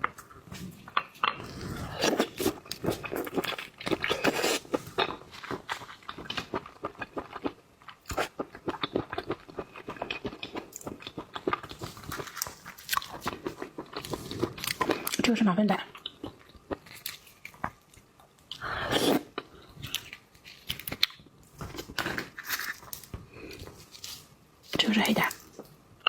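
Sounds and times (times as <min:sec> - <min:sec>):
shellfish crunching and chewing: 0:00.0 - 0:15.3, 0:15.9 - 0:25.8.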